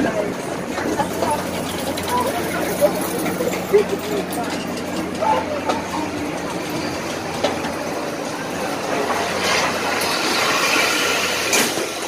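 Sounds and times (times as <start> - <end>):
fairground din: 0.0 - 12.0.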